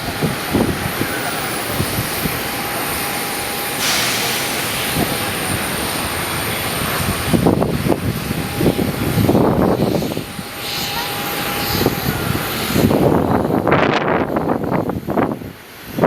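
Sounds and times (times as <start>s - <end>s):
aircraft engines running: 0.0s - 16.0s
wind buffeting microphone: 0.0s - 16.0s.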